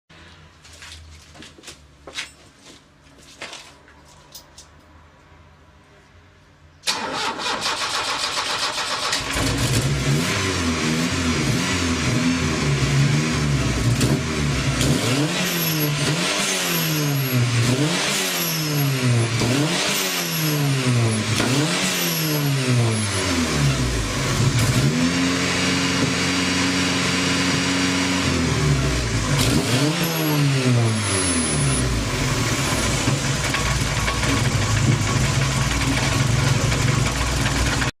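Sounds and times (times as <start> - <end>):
car engine idling and revving: 6.9 - 38.0.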